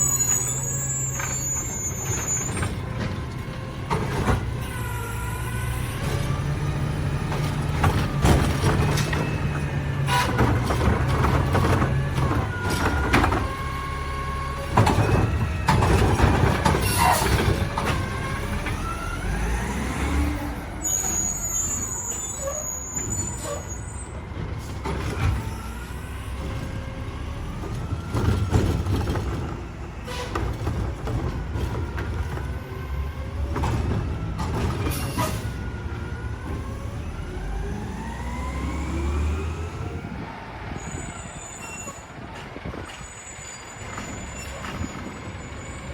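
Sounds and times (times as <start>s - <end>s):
garbage truck diesel engine: 0.0s - 45.9s.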